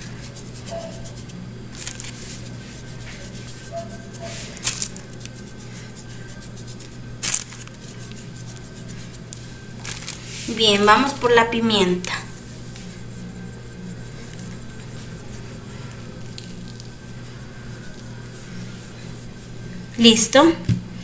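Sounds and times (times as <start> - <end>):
hand rubbing raw meat: 0.0 - 11.3, 12.3 - 20.1
steady low hum: 0.0 - 21.0.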